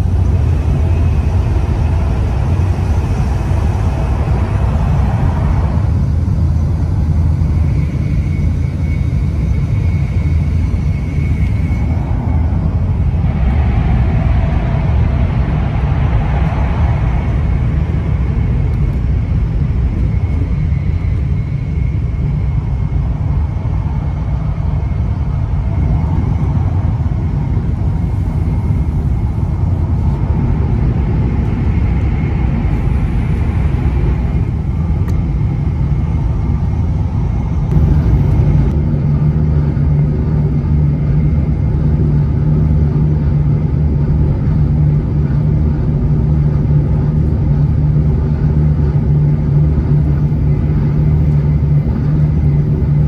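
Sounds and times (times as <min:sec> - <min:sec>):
low hum: 0:00.0 - 0:53.0
train rumble: 0:00.0 - 0:53.0.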